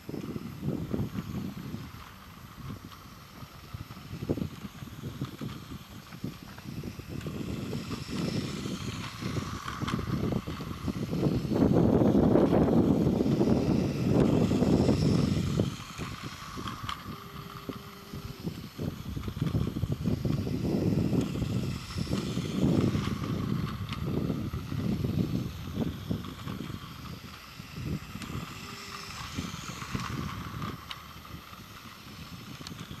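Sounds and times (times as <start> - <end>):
toy train running on plastic track: 0.0 - 33.0
wind rumbling on microphone: 0.0 - 33.0.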